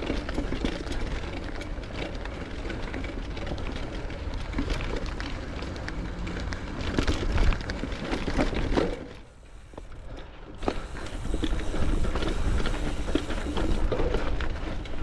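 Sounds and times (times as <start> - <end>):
bike clicking and rattling: 0.0 - 15.0
tyre and wind noise: 0.0 - 15.0.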